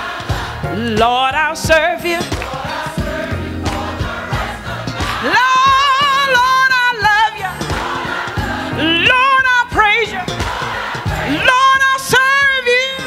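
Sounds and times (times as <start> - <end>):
choir singing: 0.0 - 0.8, 1.4 - 13.0
church band accompaniment: 0.0 - 13.0.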